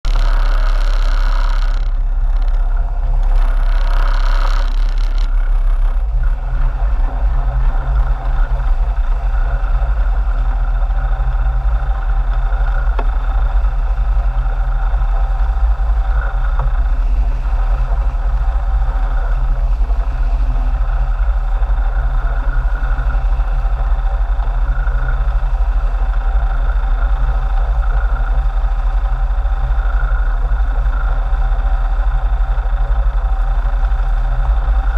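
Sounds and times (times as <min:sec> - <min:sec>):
boat engines droning: 0:00.0 - 0:34.9.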